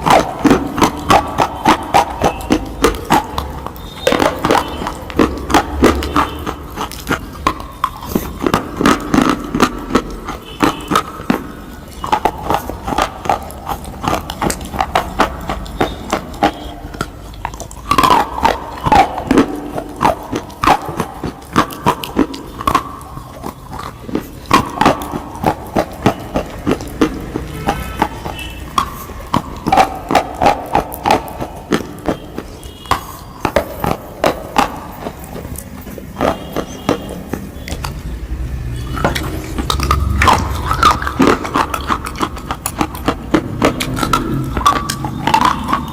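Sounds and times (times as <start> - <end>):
crunchy food chewing: 0.0 - 45.9
wet mouth sounds: 0.0 - 45.9.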